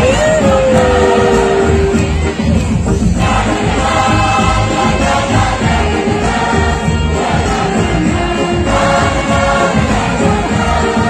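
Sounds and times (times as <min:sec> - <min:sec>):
amplified backing music with bass beat: 0:00.0 - 0:11.0
large choir singing in unison: 0:00.0 - 0:11.0.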